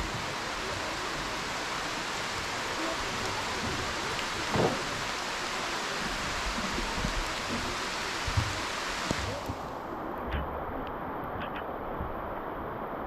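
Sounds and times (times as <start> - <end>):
heavy rain: 0.0 - 13.0
waterfall rushing: 0.0 - 13.0.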